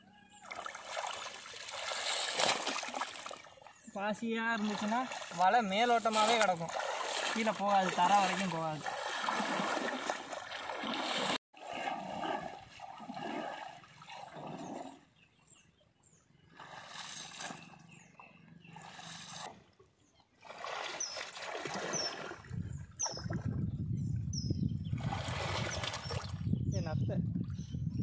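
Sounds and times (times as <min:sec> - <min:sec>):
pond water splashing: 0:00.2 - 0:15.2, 0:16.2 - 0:23.6, 0:25.0 - 0:26.4.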